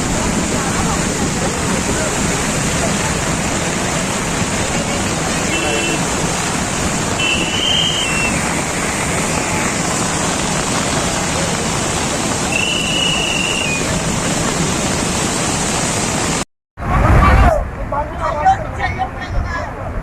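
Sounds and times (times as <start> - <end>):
rushing floodwater: 0.0 - 20.0.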